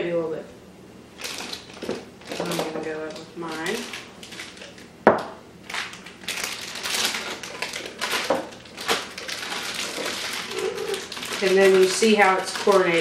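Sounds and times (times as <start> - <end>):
plastic piping bag crinkling: 1.2 - 4.9, 5.6 - 13.0.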